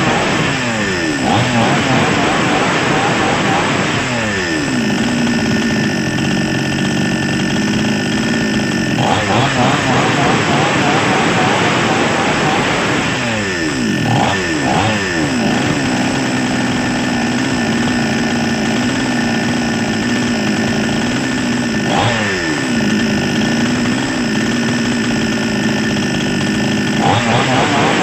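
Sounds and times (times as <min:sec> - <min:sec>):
chainsaw engine revving and idling: 0:00.0 - 0:28.0.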